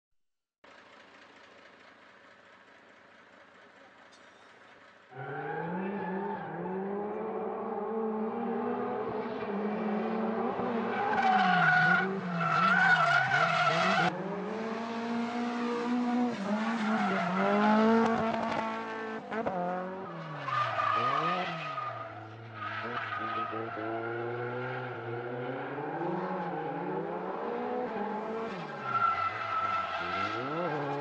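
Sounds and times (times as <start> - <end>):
car engine revving: 5.1 - 31.0.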